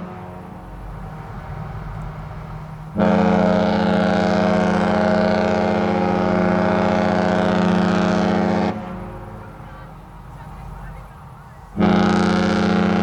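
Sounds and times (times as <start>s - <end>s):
ship horn long deep blast: 0.0s - 10.2s, 11.7s - 13.0s.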